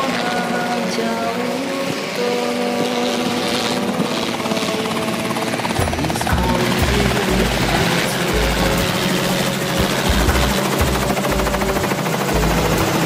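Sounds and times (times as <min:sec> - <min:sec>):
background music: 0:00.0 - 0:13.0
helicopter rotor and engine drone: 0:00.0 - 0:13.0
low rhythmic rotor thudding: 0:01.8 - 0:13.0.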